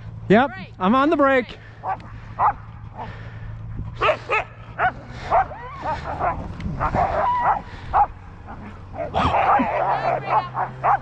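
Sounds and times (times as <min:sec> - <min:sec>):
huskies barking and yipping: 0:00.0 - 0:11.0.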